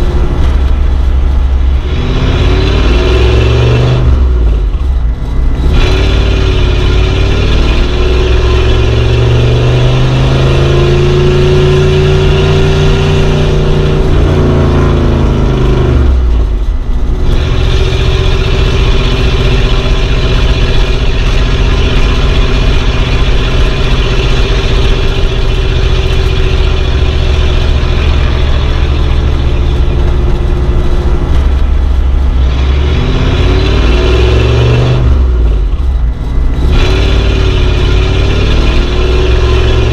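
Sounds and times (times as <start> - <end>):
old car engine running: 0.0 - 39.9.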